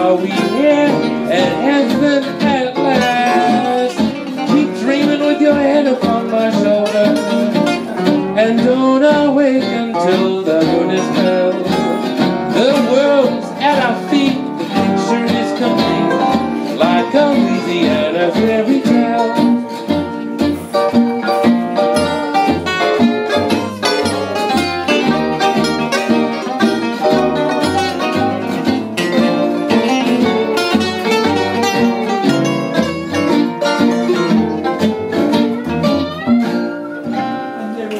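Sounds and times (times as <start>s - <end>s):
acoustic guitars strumming and picking: 0.0s - 37.9s
plucked double bass: 0.0s - 37.9s.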